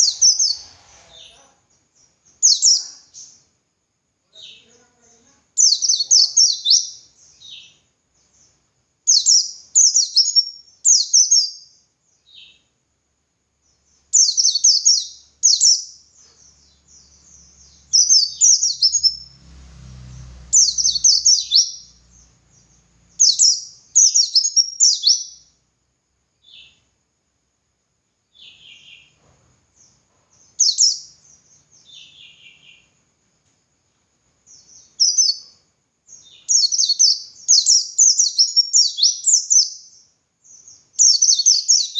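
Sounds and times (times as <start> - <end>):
bird singing high chirping phrases: 0.0 - 3.5, 4.3 - 12.7, 13.6 - 25.6, 26.4 - 26.9, 28.3 - 29.2, 29.8 - 33.0, 34.4 - 41.9.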